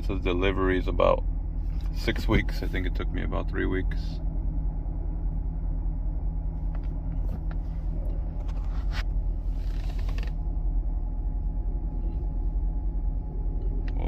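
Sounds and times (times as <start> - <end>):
car engine rumble from inside: 0.0 - 14.0.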